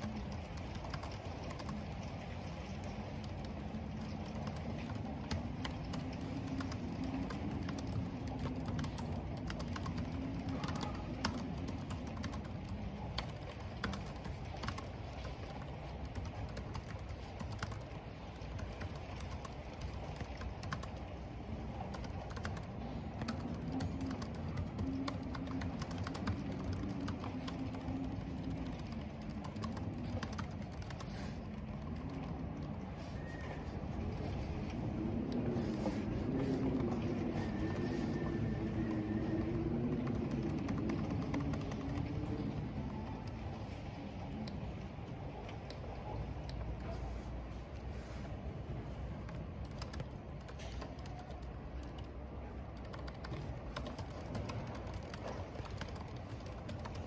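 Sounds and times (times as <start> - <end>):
keyboard typing: 0.0 - 21.1, 21.8 - 33.5, 35.4 - 43.5, 49.2 - 57.0
wind and rain: 0.0 - 57.0.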